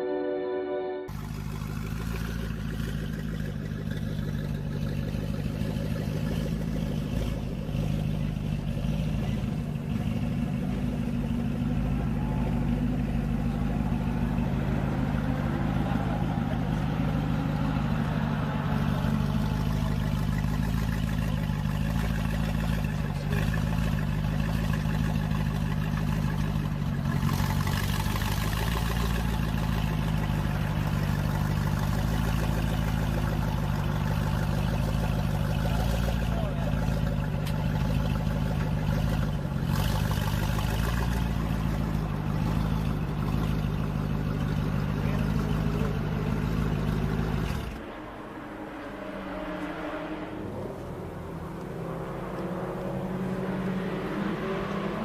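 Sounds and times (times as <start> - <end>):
car engine idling: 1.1 - 55.0.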